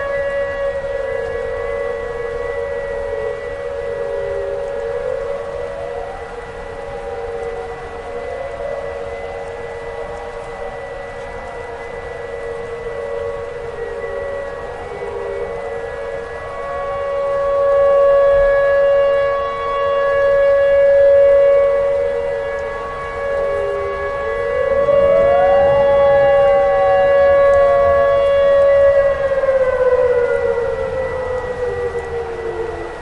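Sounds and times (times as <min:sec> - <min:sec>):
warning siren wailing: 0:00.0 - 0:33.0.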